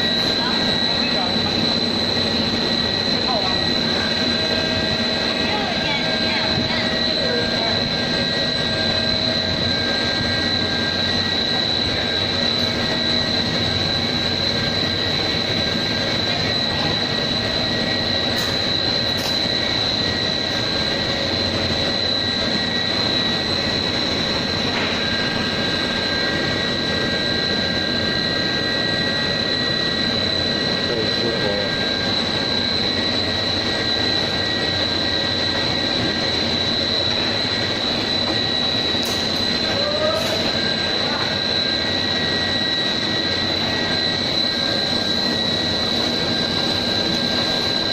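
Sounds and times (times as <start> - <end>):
high-pitched machine whine: 0.0 - 47.9
machinery drone: 0.0 - 47.9.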